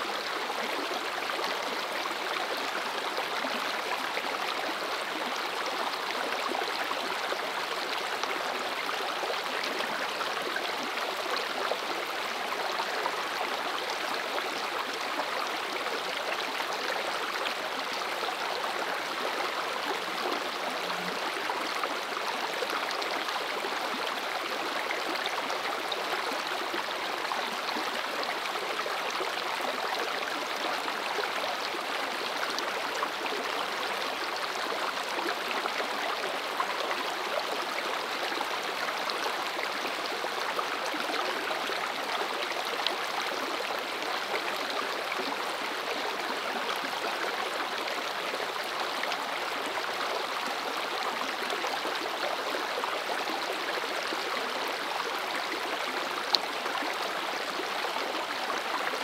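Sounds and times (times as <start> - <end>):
creek water flowing: 0.0 - 59.0.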